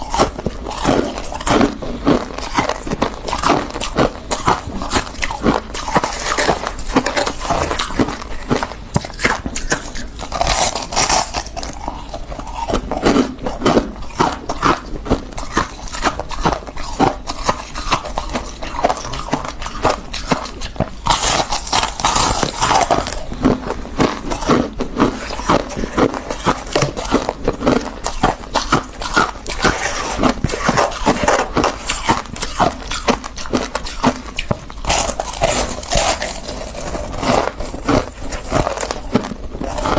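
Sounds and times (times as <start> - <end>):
crunchy frost chewing: 0.0 - 39.9.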